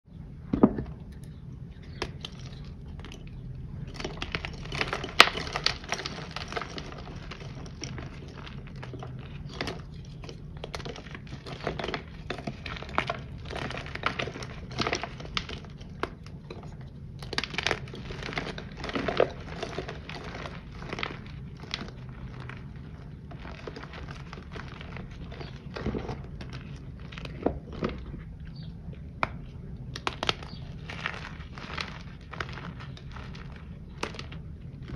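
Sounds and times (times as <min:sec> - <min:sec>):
low steady hum: 0:00.0 - 0:34.9
powder crunching and crackling: 0:00.5 - 0:34.9.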